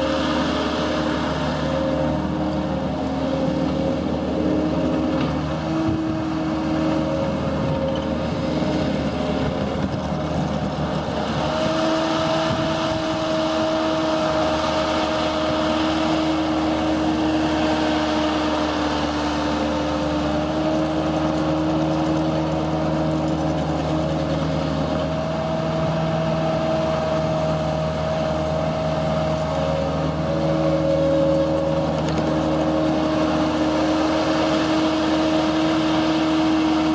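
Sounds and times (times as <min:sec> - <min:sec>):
diesel engine running: 0:00.0 - 0:36.9
steady whine: 0:00.0 - 0:36.9.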